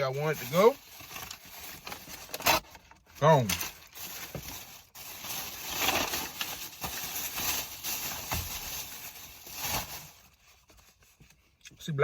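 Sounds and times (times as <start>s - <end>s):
paper rustling: 0.2s - 11.4s.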